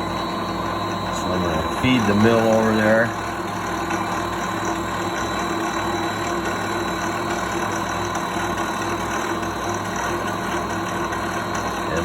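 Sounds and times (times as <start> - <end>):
milling machine motor humming: 0.0 - 12.0.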